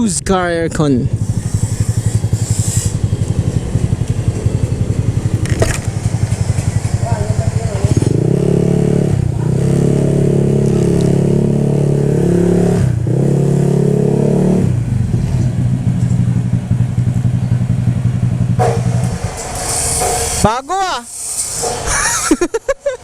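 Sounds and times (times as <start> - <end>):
motorcycle engine running: 0.0 - 20.4.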